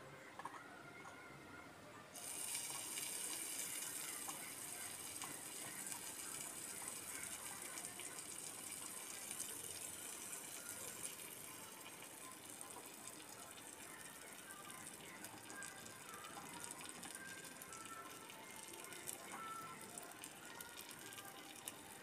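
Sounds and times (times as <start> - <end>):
prawns sizzling in hot oil: 2.2 - 22.0.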